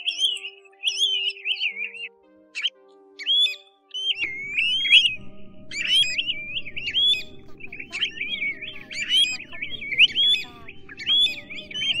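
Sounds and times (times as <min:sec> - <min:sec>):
birds whistling calls: 0:00.0 - 0:12.0.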